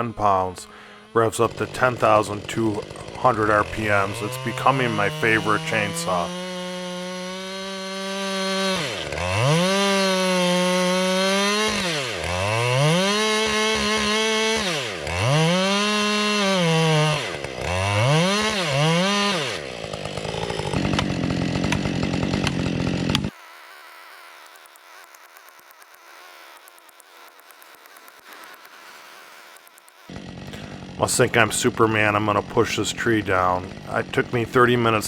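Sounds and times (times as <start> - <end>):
chainsaw engine revving: 0.0 - 35.0.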